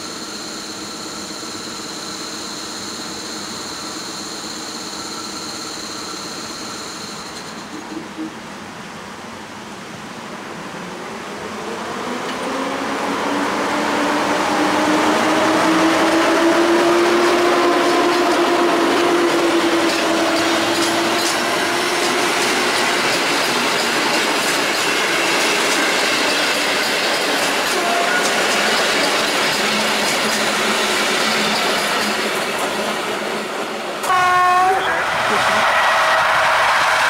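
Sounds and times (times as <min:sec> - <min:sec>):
train rolling past: 0:00.0 - 0:37.0.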